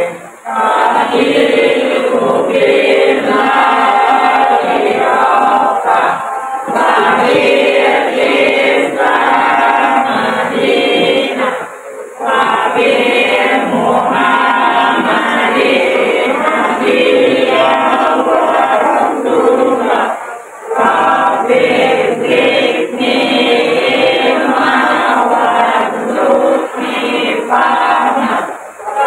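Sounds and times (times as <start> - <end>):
choir singing with music: 0.0 - 29.0.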